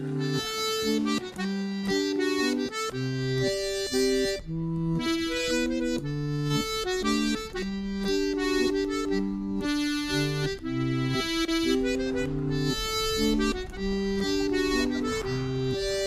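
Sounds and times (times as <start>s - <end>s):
button accordion folk tune: 0.0s - 16.0s.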